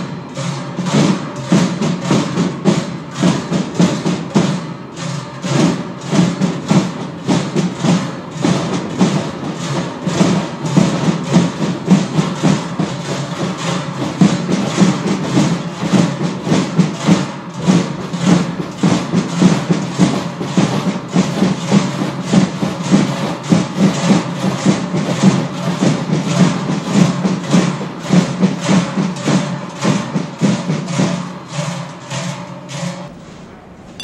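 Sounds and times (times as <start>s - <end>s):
drums: 0.0s - 34.0s.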